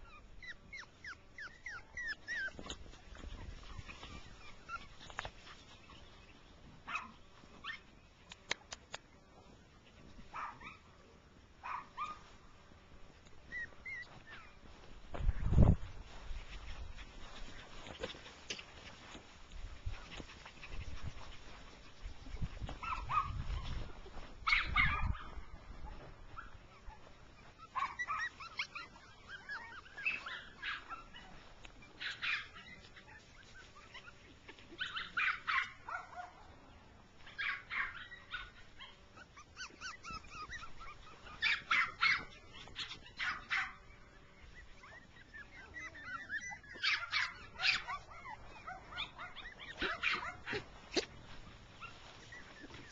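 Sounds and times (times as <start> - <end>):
puppies yapping: 0.0 - 8.6, 13.4 - 14.7, 16.3 - 36.5, 37.2 - 52.9.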